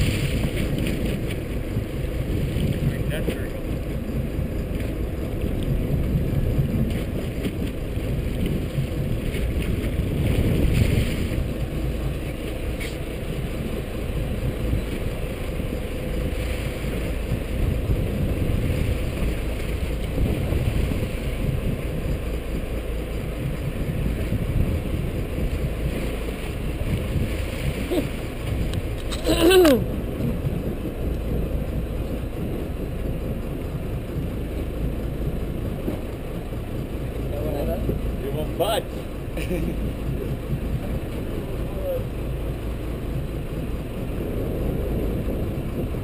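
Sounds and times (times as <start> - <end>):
boat engine rumbling: 0.0 - 46.0
wind on microphone: 0.0 - 46.0.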